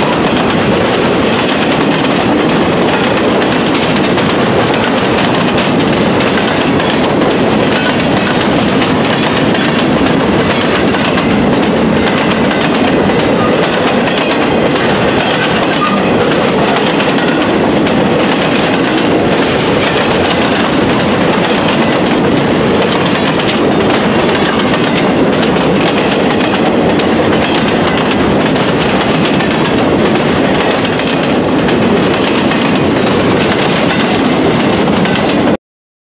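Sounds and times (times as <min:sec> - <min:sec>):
train cars clattering on rails: 0:00.0 - 0:35.6.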